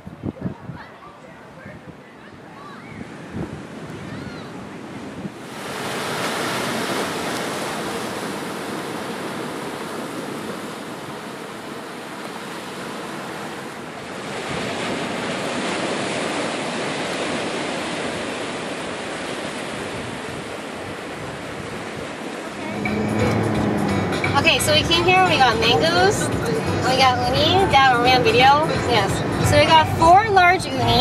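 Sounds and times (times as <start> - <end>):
ocean surf washing over rocks: 2.6 - 29.6.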